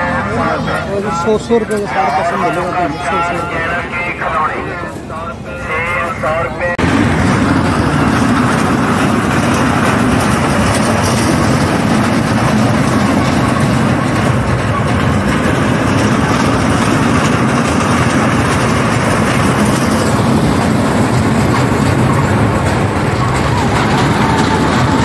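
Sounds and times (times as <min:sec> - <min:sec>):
crowd hubbub: 0:00.0 - 0:07.4, 0:08.1 - 0:25.0
engine low rumble: 0:00.0 - 0:25.0.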